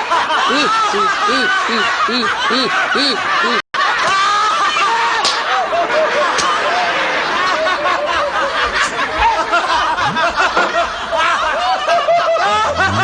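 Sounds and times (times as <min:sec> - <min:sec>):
audience laughing: 0:00.0 - 0:13.0.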